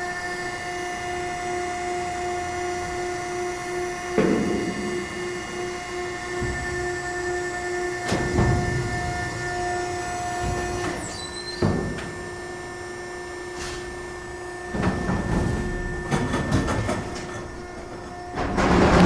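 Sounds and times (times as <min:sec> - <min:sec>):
shredder humming whine: 0:00.0 - 0:19.0.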